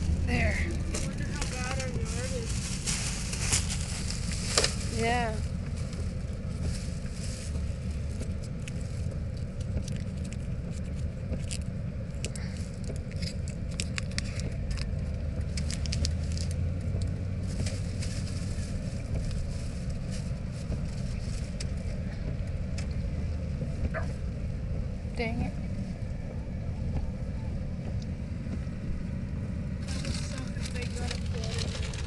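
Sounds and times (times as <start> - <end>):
car road noise rumble: 0.0 - 32.0.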